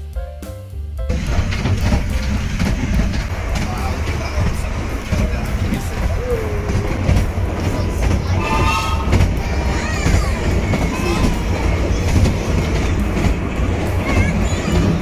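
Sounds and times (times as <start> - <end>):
train wheels rumbling on track: 1.0 - 15.0.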